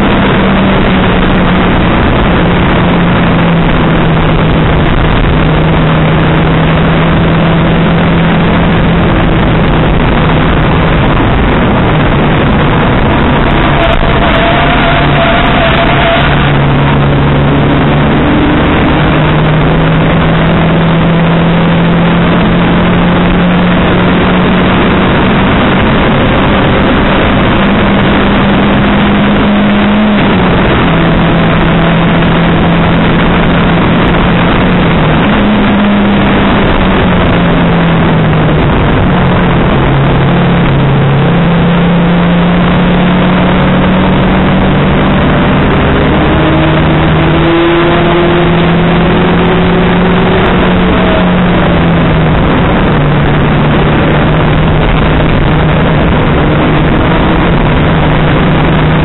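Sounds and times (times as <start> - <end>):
race car engine from inside cabin: 0.0 - 59.0
wind and road noise: 0.0 - 59.0.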